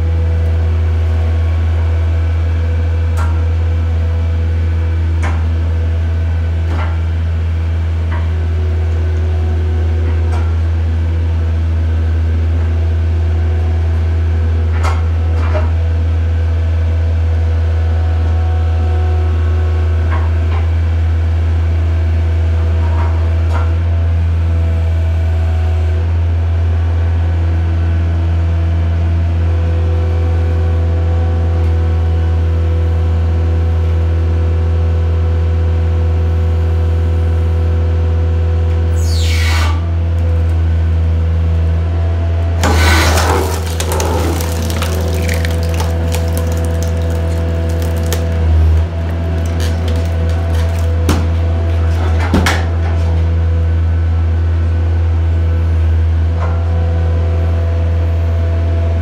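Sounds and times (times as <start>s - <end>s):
skid steer engine running: 0.0s - 59.0s.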